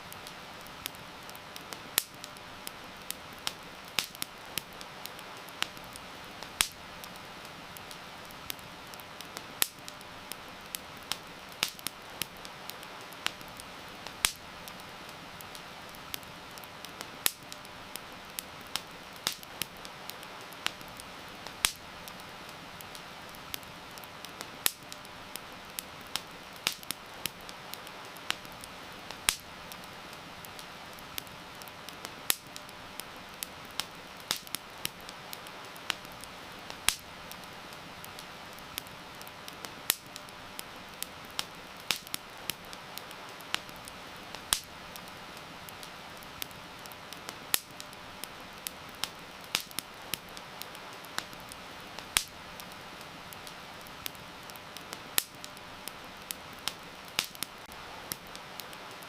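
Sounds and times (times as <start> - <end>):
campfire crackling and popping: 0.0 - 59.0
heavy rain hiss: 0.0 - 59.0.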